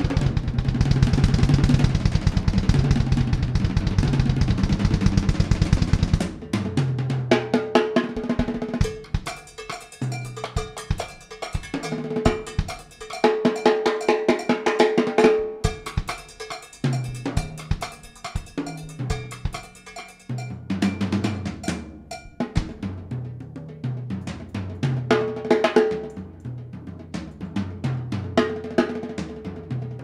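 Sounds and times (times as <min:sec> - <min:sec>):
drum kit solo: 0:00.0 - 0:30.0
tom drums: 0:00.0 - 0:30.0.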